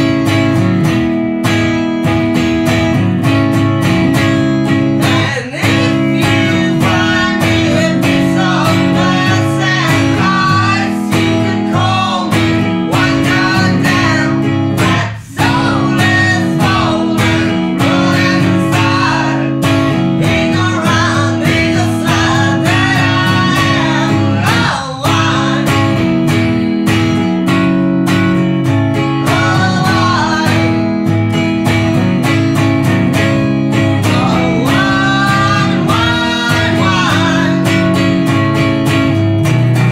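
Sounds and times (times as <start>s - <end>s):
blues song on acoustic guitars: 0.0s - 39.9s.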